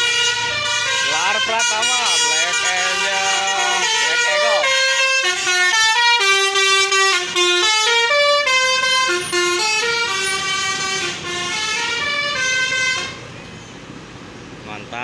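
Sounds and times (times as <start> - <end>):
musical air horn melody: 0.0 - 13.2.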